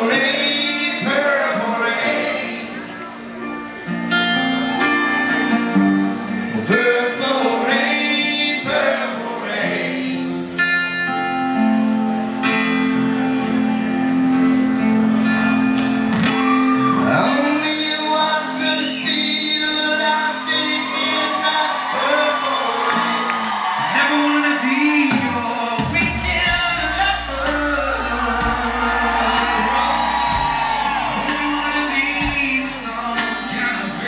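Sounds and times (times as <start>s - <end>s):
person singing: 0.0s - 10.9s, 13.0s - 34.0s
held keyboard chords: 0.0s - 21.9s, 22.9s - 34.0s
guitar: 0.0s - 34.0s.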